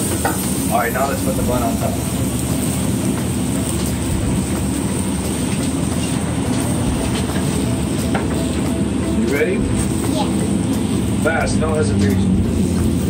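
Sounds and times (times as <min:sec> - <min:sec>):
kitchen equipment rumble and hiss: 0:00.0 - 0:13.0.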